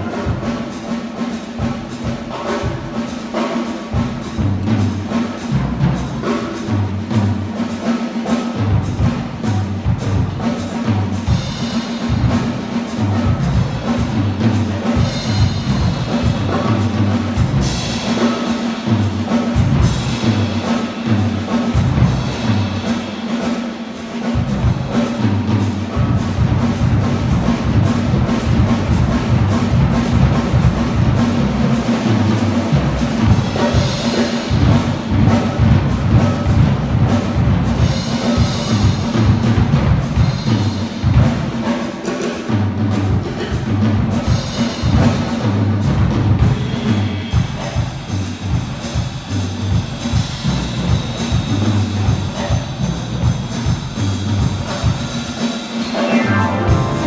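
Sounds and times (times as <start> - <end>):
big band playing jazz: 0.0 - 57.0
drum kit steady beat: 0.0 - 57.0.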